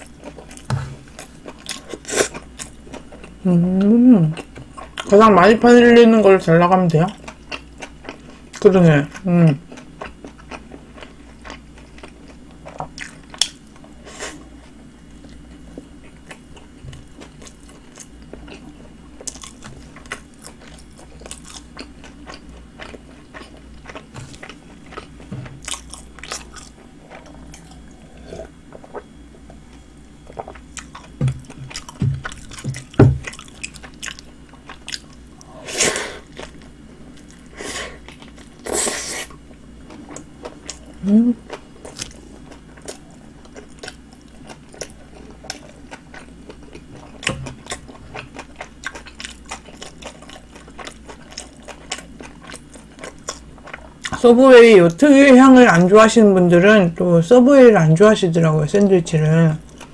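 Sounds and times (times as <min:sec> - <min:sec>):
person chewing sandwich: 0:00.0 - 0:05.1, 0:07.1 - 0:54.2.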